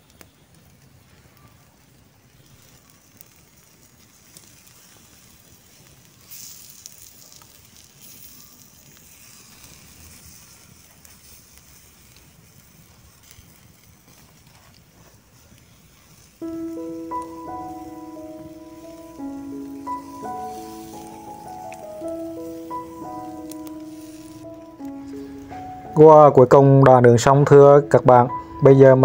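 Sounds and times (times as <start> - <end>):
wood fire crackling: 0.0 - 29.0
fat sizzling: 0.1 - 28.5.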